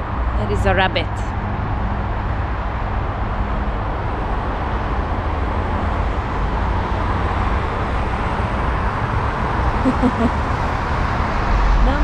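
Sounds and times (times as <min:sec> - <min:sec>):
cars passing: 0:00.0 - 0:12.0
low traffic rumble: 0:00.0 - 0:12.0.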